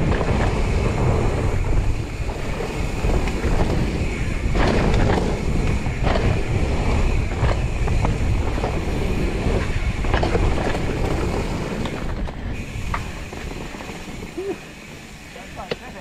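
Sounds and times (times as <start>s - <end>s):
wind buffeting microphone: 0.0s - 15.8s
bike clicks and rattles: 0.0s - 16.0s
bike tyres rumbling over dirt: 0.0s - 16.0s.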